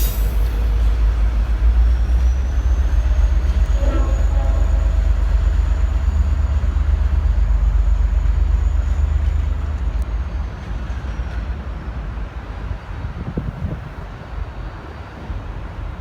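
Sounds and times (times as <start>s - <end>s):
diesel train low rumble: 0.0s - 16.0s.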